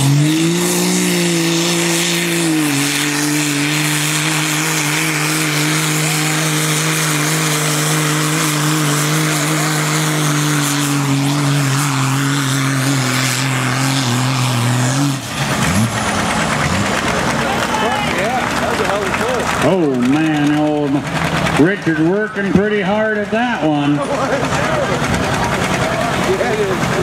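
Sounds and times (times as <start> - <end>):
diesel truck engine under load: 0.0 - 27.0.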